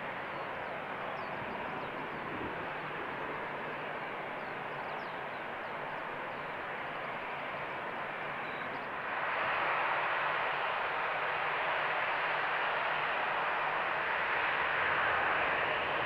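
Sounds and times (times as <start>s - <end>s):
jet airliner taking off: 0.0s - 16.0s.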